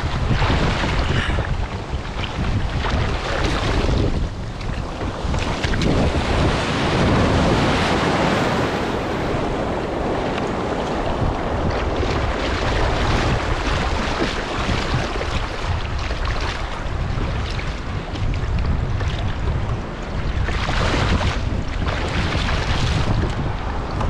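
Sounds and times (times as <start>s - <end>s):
surf breaking and churning water: 0.0s - 24.0s
wind rumble on microphone: 0.0s - 24.0s.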